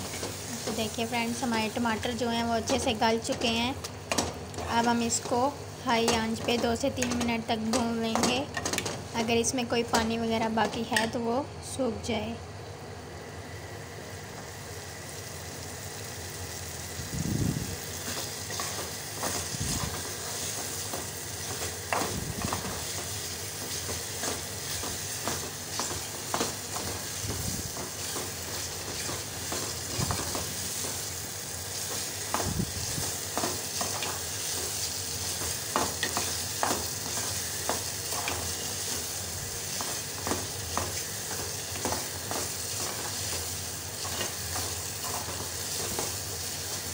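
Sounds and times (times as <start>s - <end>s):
food sizzling in a pan: 0.0s - 10.8s, 13.0s - 46.9s.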